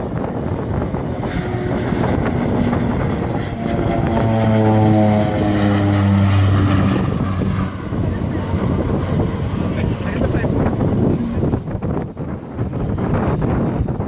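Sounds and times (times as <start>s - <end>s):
propeller aircraft passing: 0.0s - 14.0s
wind noise on microphone: 0.0s - 14.0s.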